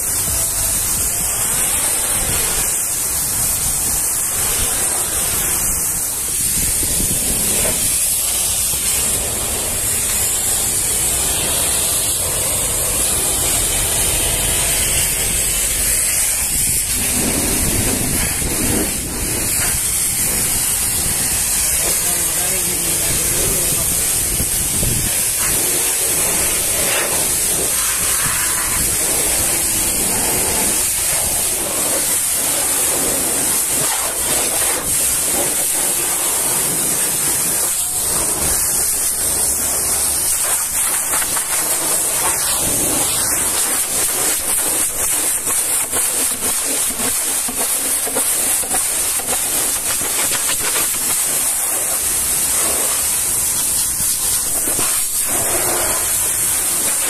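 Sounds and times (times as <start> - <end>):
pressure washer spraying: 0.0 - 57.0.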